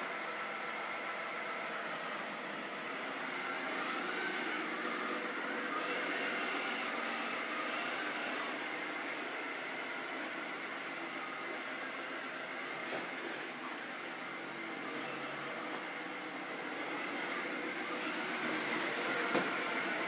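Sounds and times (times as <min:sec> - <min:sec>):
robot vacuum whirring: 0:00.2 - 0:20.0.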